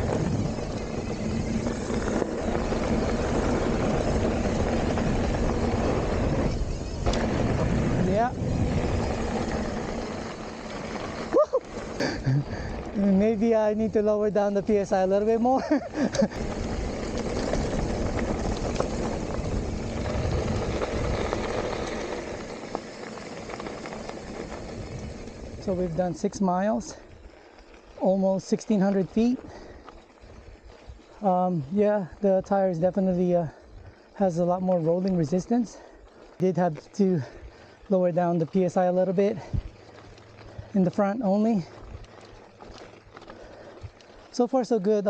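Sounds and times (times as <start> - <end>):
mountain bike rumbling on dirt: 0.0 - 45.0.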